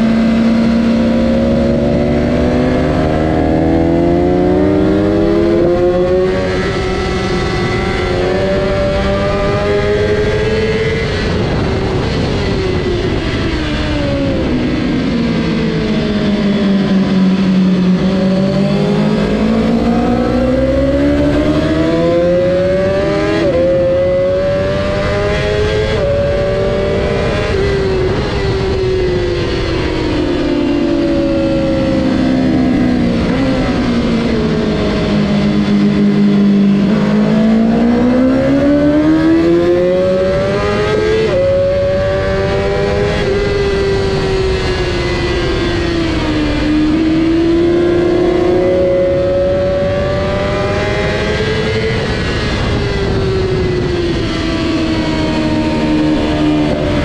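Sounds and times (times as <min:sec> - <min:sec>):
motorcycle engine revving and shifting: 0:00.0 - 0:57.0.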